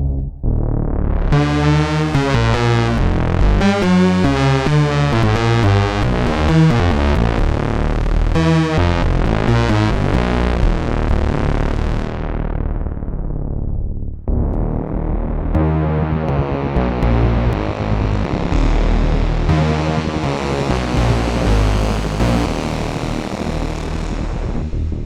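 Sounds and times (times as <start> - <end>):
synthesizer bass line: 0.0 - 25.0.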